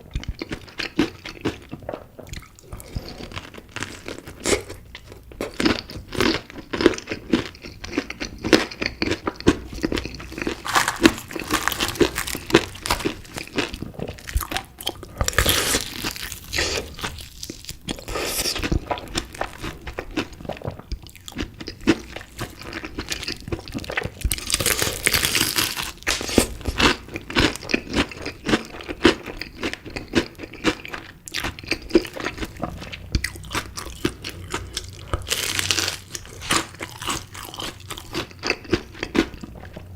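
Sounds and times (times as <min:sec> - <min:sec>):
crunchy bites and chewing: 0:00.1 - 0:39.8.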